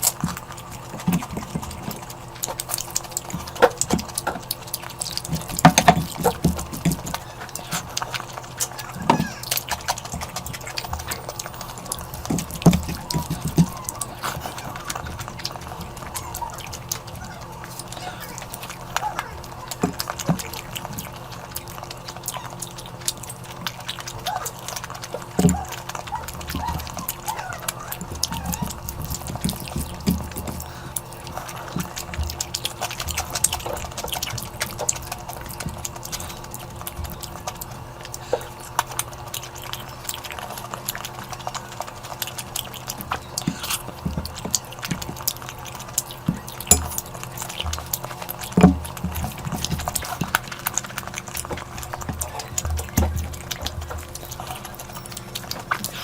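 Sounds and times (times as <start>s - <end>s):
wet chewing and lip-smacking: 0.0s - 56.0s.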